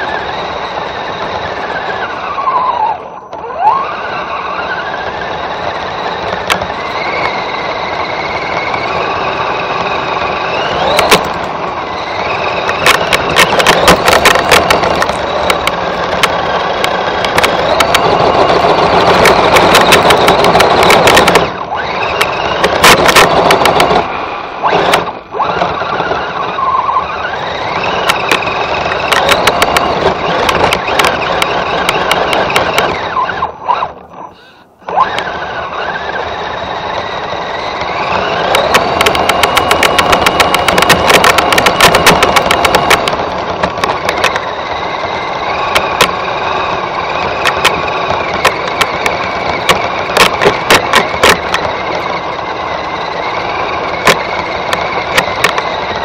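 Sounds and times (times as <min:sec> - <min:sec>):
electric motor and gears whining: 0:00.0 - 0:56.0
tyres churning crusty snow: 0:00.0 - 0:56.0
rapid crackling clicks: 0:04.0 - 0:56.0.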